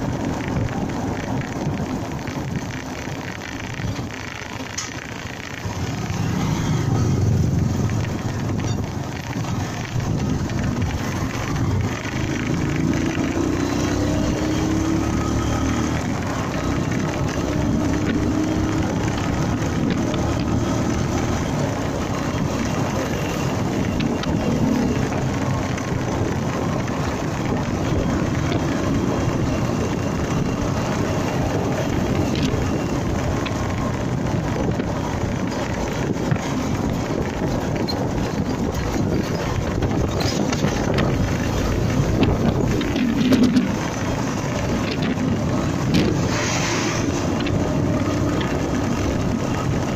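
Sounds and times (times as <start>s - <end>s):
motorcycle engine running: 0.0s - 49.9s
road noise: 0.0s - 49.9s
wind rushing over microphone: 0.0s - 49.9s.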